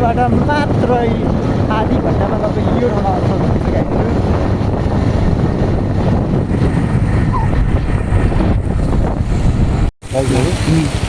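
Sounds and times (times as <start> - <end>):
road and engine noise: 0.0 - 11.0
wind buffeting microphone: 0.0 - 11.0.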